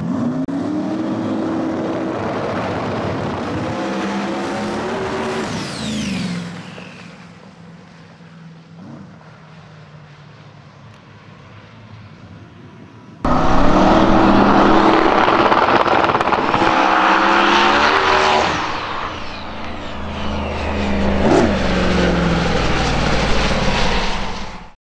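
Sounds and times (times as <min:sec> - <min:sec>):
drag car accelerating at full throttle: 0:00.0 - 0:24.8.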